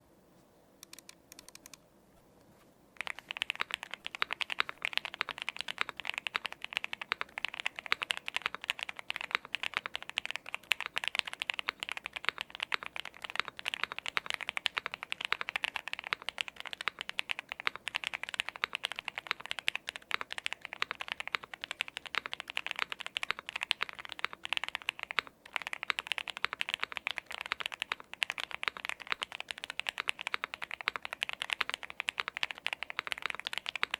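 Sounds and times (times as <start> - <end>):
mechanical keyboard typing: 3.0 - 33.9.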